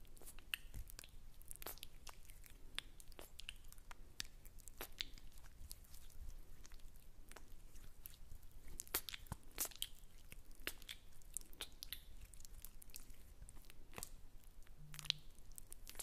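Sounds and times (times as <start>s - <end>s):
wet mouth clicks: 0.1s - 8.2s, 8.8s - 16.0s.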